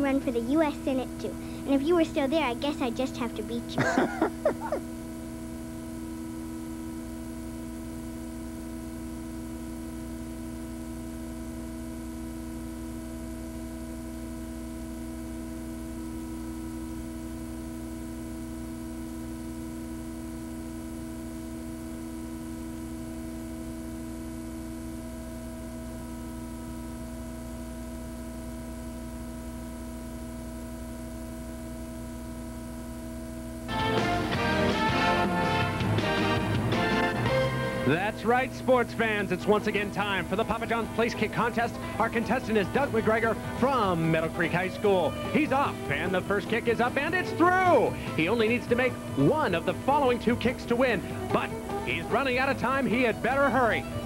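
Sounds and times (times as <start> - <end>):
electrical hum and buzz: 0.0 - 54.0.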